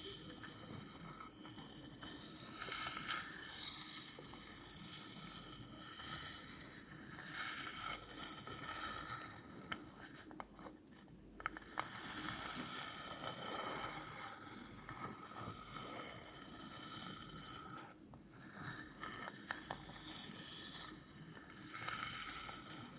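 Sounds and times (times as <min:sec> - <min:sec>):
scratching on surface: 0:00.0 - 0:22.9.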